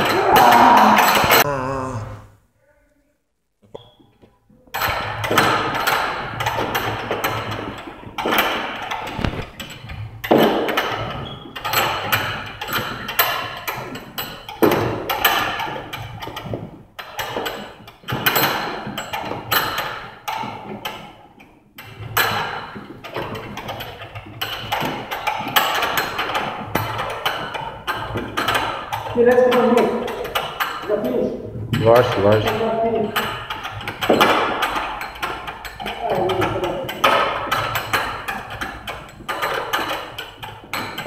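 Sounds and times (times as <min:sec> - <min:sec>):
battle ropes slapping floor: 0:04.8 - 0:41.0.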